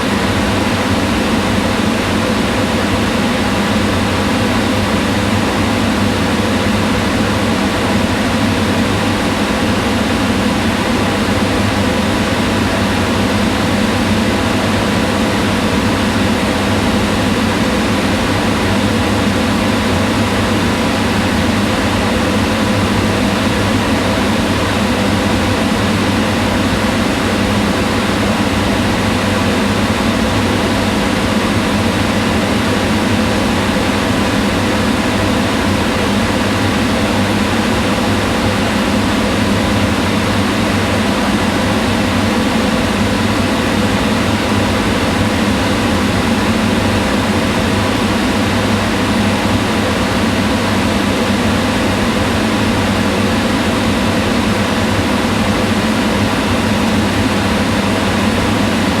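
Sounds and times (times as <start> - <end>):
range hood fan running: 0.0 - 59.0.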